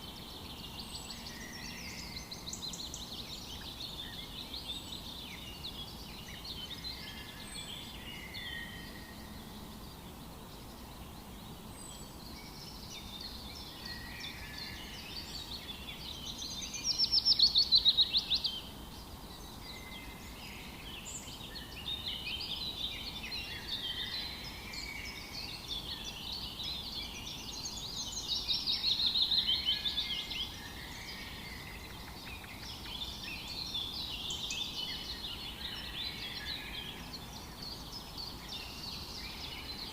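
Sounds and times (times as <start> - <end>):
wild birds chirping and singing: 0.0 - 39.9.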